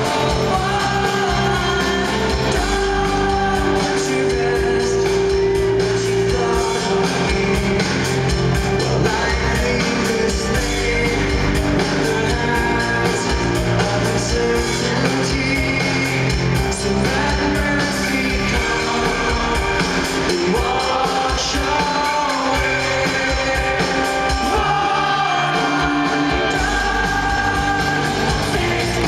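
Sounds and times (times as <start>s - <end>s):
man singing into microphone: 0.0s - 8.1s, 8.8s - 29.0s
electric bass: 0.0s - 29.0s
guitar: 0.0s - 29.0s
keyboards: 0.0s - 29.0s
steady drum beat: 0.0s - 29.0s.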